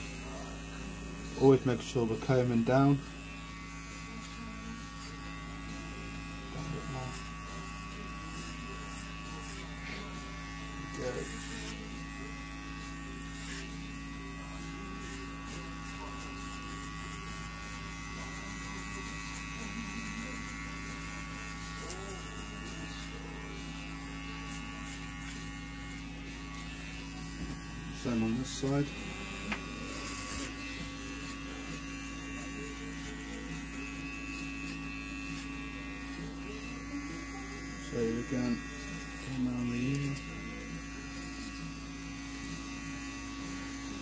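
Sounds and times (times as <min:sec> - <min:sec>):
electric hair clippers humming: 0:00.0 - 0:44.0.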